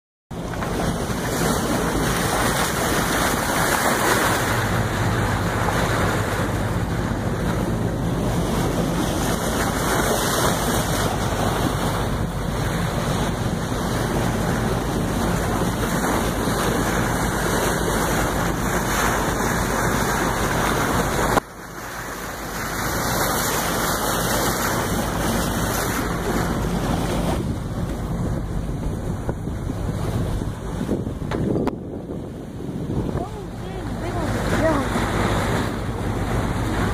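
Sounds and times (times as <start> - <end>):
low engine hum: 0.3 - 36.9
water rushing along hull: 0.3 - 36.9
wind buffeting microphone: 0.3 - 36.9.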